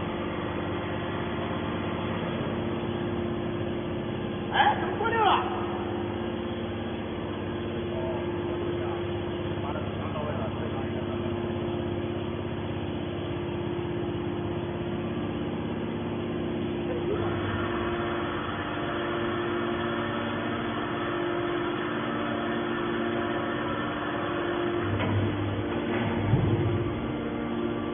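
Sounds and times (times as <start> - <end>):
hydraulic pump motor hum: 0.0 - 27.9.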